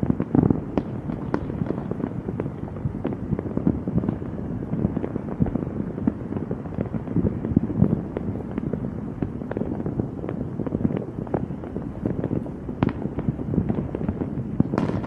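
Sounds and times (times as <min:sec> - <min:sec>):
fireworks bangs and crackles: 0:00.0 - 0:15.0
fireworks low booms: 0:00.0 - 0:15.0.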